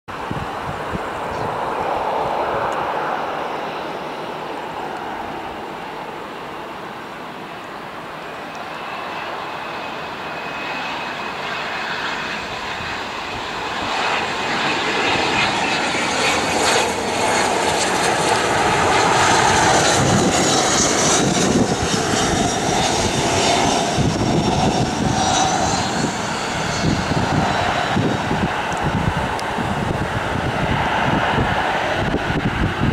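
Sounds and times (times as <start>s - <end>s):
jet passing with high whine: 0.1s - 32.9s.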